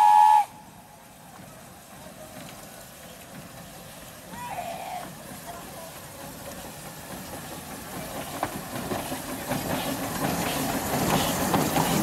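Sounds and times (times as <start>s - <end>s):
steam locomotive passing: 0.0s - 12.0s.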